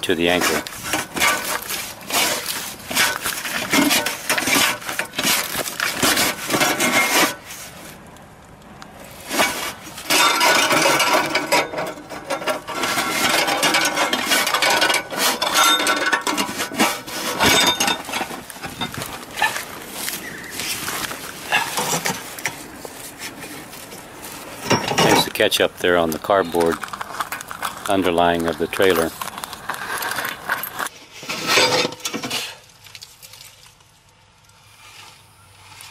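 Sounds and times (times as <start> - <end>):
strap scraping and clicking: 0.2 - 8.2, 8.9 - 34.2.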